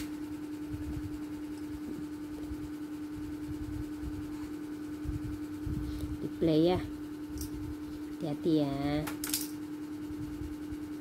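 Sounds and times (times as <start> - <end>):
steady mid-pitch hum: 0.0 - 11.0.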